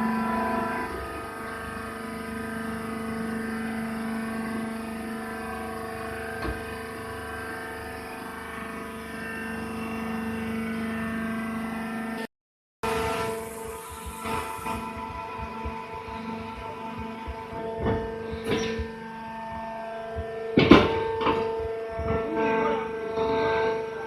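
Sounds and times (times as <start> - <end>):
hydraulic baler humming: 0.0 - 24.0.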